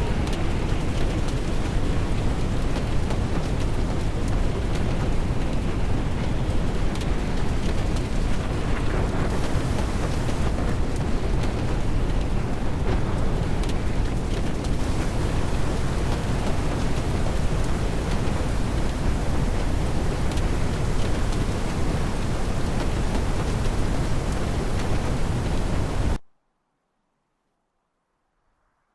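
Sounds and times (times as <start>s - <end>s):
rain: 0.0s - 26.2s
wind: 0.0s - 26.2s.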